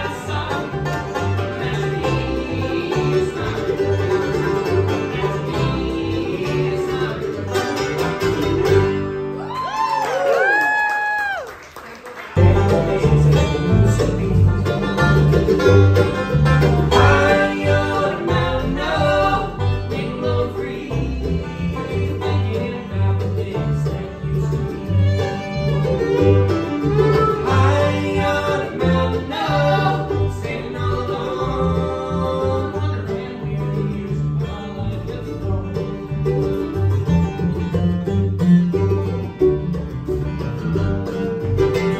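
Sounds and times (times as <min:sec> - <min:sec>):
bass line: 0:00.0 - 0:10.4, 0:12.4 - 0:41.9
banjo: 0:00.0 - 0:10.6, 0:12.2 - 0:41.9
bluegrass band playing: 0:00.0 - 0:41.9
guitar: 0:00.0 - 0:41.9.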